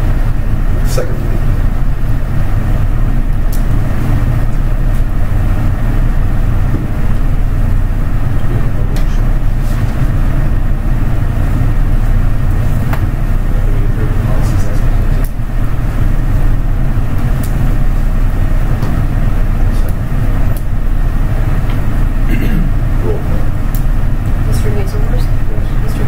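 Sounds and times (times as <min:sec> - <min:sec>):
low hum and rumble: 0:00.0 - 0:26.0.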